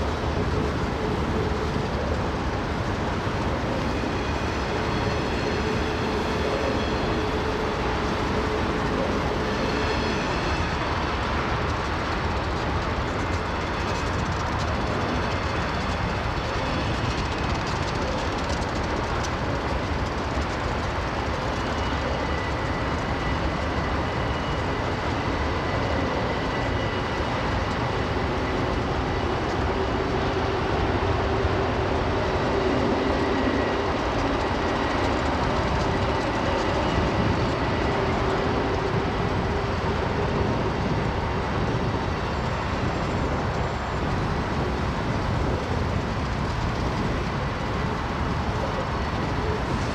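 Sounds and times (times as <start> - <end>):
freight train rolling on rails: 0.0 - 49.9.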